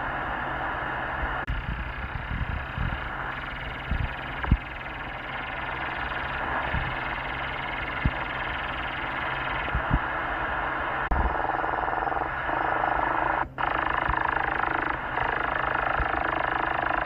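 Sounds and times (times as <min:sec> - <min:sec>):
radio interference noise: 0:00.0 - 0:17.0.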